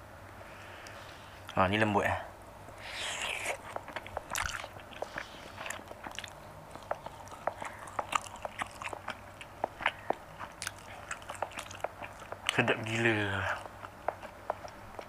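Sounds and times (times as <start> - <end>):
mouth clicks and smacks: 2.7 - 15.0
person chewing meat: 2.7 - 15.0.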